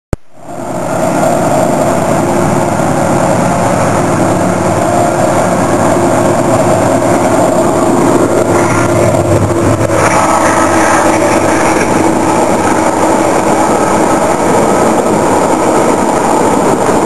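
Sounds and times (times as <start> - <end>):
train rumbling by: 0.3 - 17.0
steady held tones: 1.4 - 16.6.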